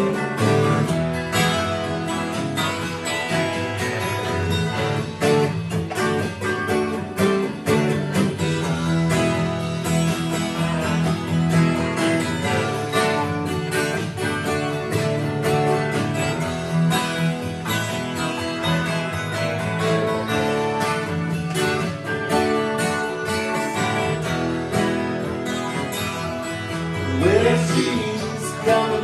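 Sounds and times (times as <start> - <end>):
acoustic guitar strumming: 0.0 - 29.0
music: 0.0 - 29.0.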